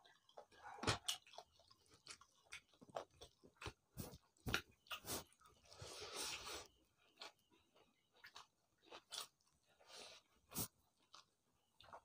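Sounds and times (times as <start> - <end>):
people chewing with open mouths: 0.0 - 12.0.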